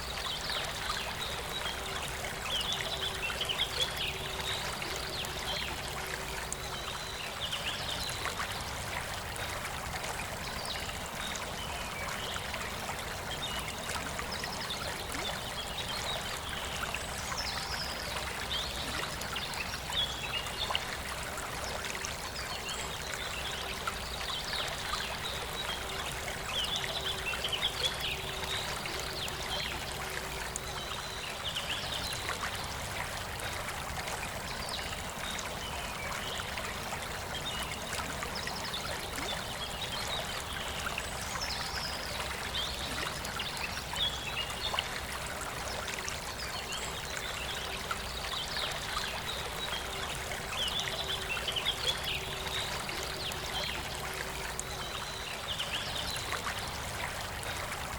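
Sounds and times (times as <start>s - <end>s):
river flowing: 0.0s - 57.9s.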